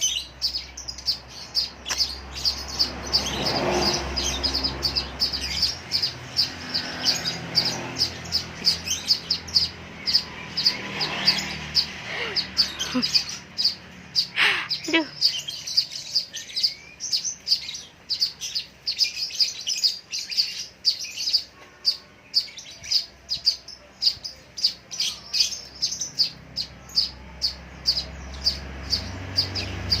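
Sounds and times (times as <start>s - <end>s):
lovebird chirping: 0.0s - 30.0s.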